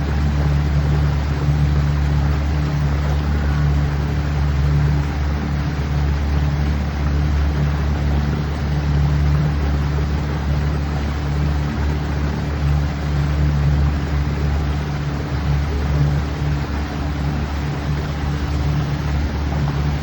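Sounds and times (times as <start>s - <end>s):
motorboat engine running: 0.0s - 20.0s
water wash: 0.0s - 20.0s.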